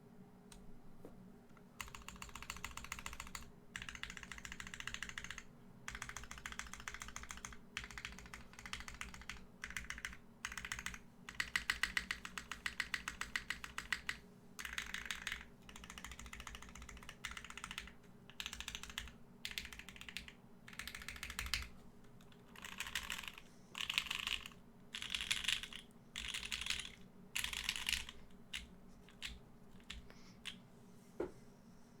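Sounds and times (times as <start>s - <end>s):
mechanical keyboard typing: 1.8s - 30.1s.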